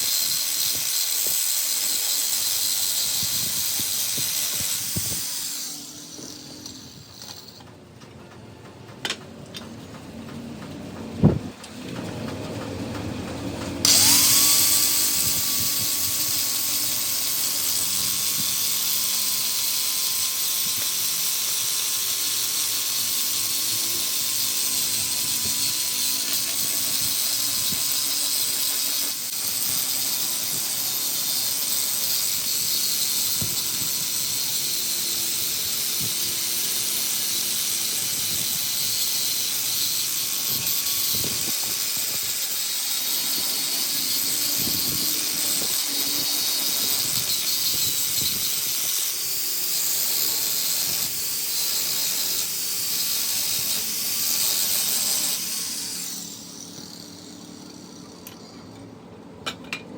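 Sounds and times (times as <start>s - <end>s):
power tool whining: 0.0s - 59.9s.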